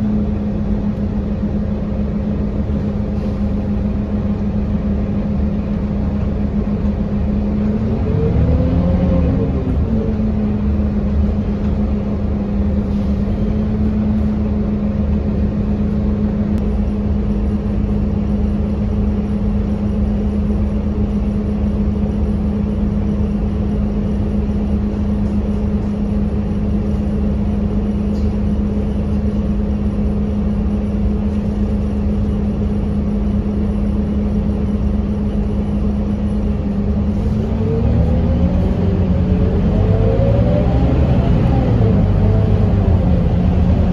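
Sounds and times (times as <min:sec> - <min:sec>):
bus diesel engine humming: 0:00.0 - 0:43.9.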